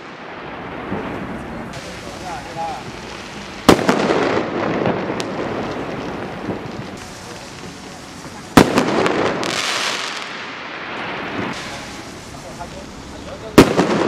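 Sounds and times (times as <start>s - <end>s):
firework pops and crackle: 0.0s - 14.0s
firework rocket bang: 0.0s - 14.0s.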